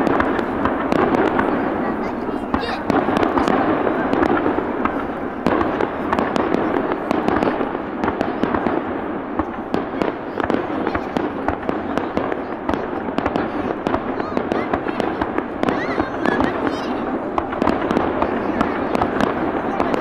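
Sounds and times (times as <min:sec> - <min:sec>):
fireworks popping and crackling: 0:00.0 - 0:20.0.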